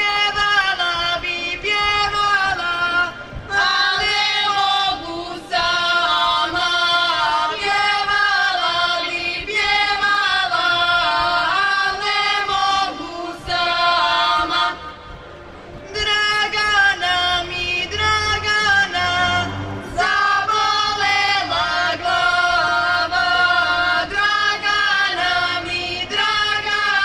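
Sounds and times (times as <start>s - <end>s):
women's folk singing group: 0.0s - 27.0s.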